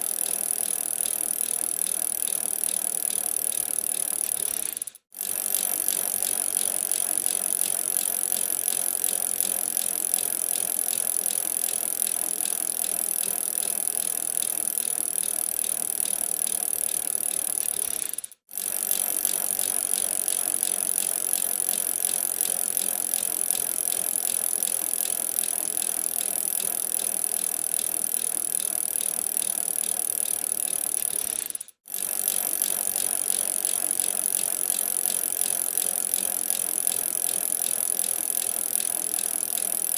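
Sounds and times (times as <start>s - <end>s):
bicycle drivetrain rattling and ticking: 0.0s - 39.9s.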